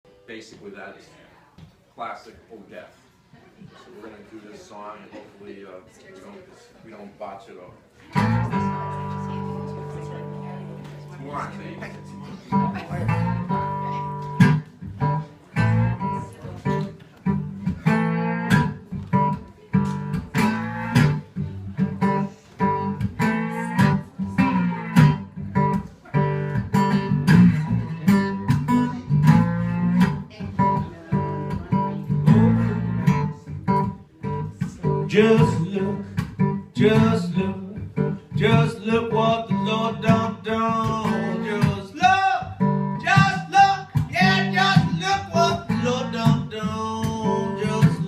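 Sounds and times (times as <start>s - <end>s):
acoustic guitar blues: 8.0s - 48.0s.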